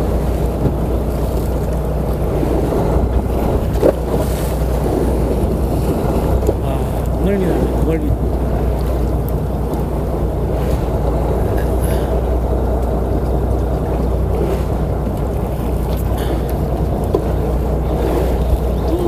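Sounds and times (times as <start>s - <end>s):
boat engine humming: 0.0s - 19.0s
water rushing: 0.0s - 19.0s
wind: 0.0s - 19.0s.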